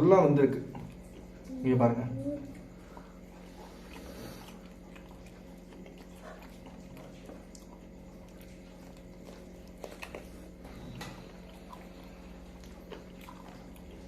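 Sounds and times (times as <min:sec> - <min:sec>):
low electrical hum: 0:00.0 - 0:14.0
person chewing food: 0:00.5 - 0:01.6, 0:02.4 - 0:14.0.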